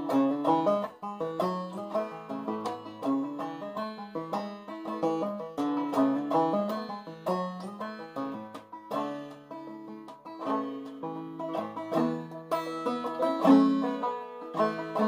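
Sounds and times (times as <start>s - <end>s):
banjo plucked notes: 0.0s - 15.0s.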